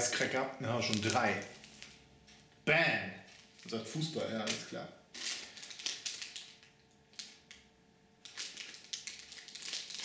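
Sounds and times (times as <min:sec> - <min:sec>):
plastic packaging crinkling: 0:00.6 - 0:02.4, 0:03.2 - 0:10.0.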